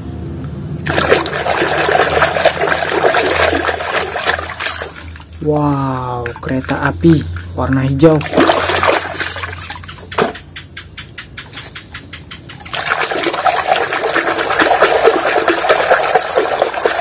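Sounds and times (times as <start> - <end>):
water sloshing and splashing: 0.8 - 10.4, 12.0 - 17.0.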